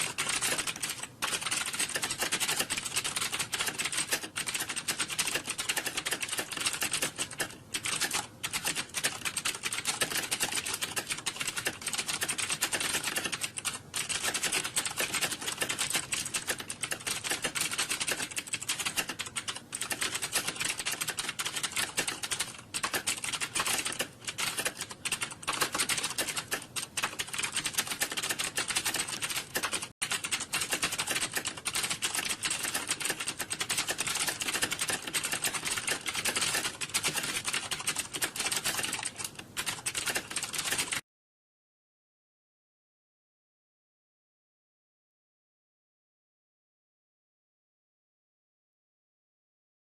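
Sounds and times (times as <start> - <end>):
fast typing on keyboards: 0.0 - 41.0.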